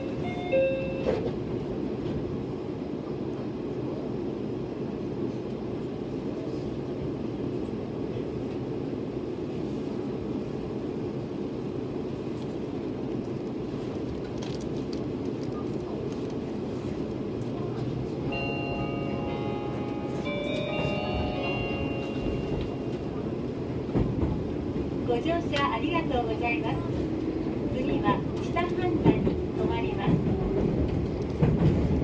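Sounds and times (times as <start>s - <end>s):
electric train interior hum: 0.0s - 32.0s.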